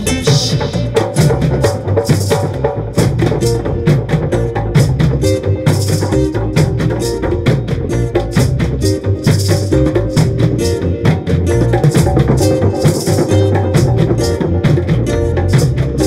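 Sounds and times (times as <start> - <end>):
acoustic bass guitar: 0.0 - 16.0
percussion beat: 0.0 - 16.0.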